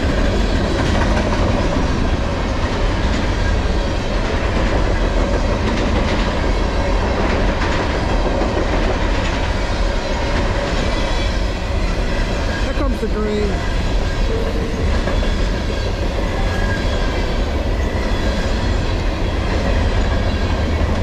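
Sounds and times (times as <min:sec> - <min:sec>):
train wheels rumbling on rail: 0:00.0 - 0:21.0
wheels clacking over rail joints: 0:00.0 - 0:21.0.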